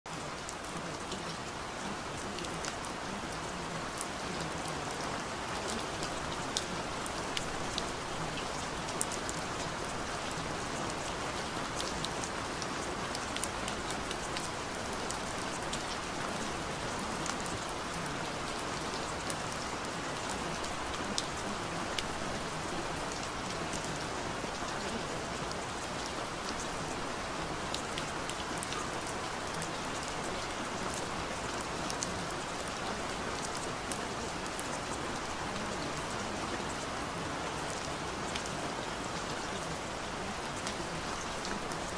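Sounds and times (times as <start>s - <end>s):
steady rain hiss: 0.1s - 41.9s
raindrop ticks: 5.6s - 36.9s, 37.6s - 41.9s.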